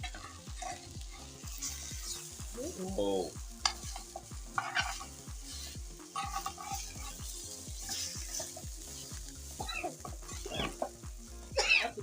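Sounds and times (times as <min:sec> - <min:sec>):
background music with a beat: 0:00.0 - 0:12.0
bread sizzling in a pan: 0:00.0 - 0:12.0.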